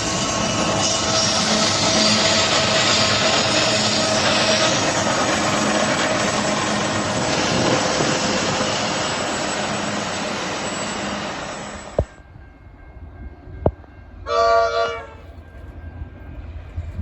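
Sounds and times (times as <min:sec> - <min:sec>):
passing train roar: 0:00.0 - 0:17.0.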